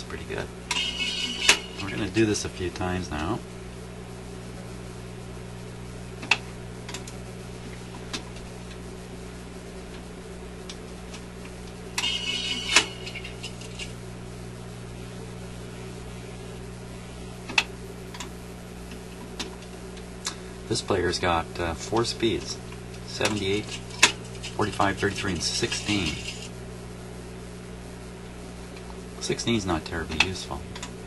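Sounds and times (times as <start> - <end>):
record player motor hum: 0.0 - 31.0.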